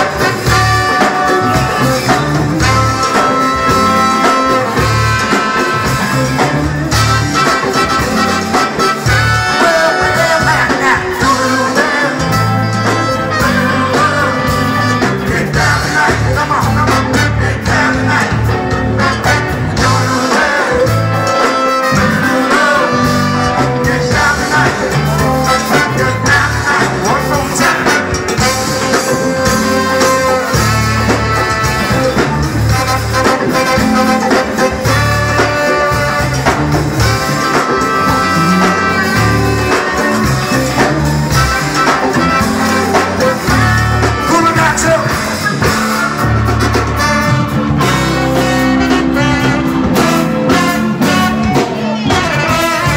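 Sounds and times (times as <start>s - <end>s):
sung vocals: 0.0s - 46.4s
funk band playing: 0.0s - 52.9s
horn section: 0.0s - 52.9s.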